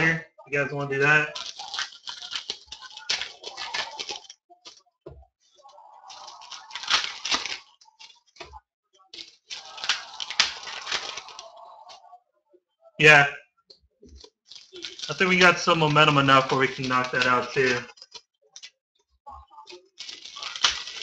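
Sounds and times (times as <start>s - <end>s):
plastic wrappers crinkling: 1.0s - 12.0s, 14.1s - 18.7s, 19.4s - 21.0s.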